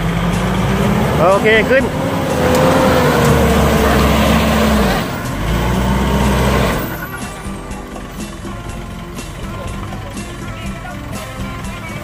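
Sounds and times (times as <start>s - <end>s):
engine revving hard: 0.0s - 12.0s.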